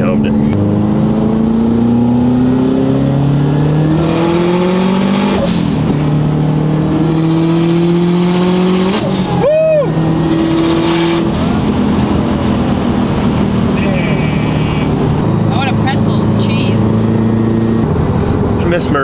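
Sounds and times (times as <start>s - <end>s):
car engine accelerating through gears: 0.0s - 19.0s.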